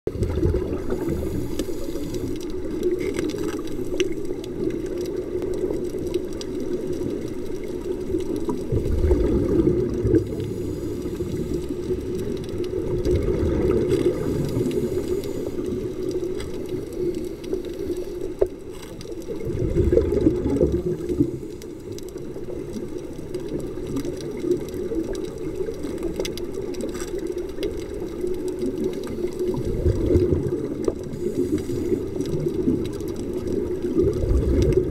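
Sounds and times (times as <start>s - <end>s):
diver's regulator bubbles gurgling: 0.1s - 34.9s
low underwater hum: 0.1s - 34.9s.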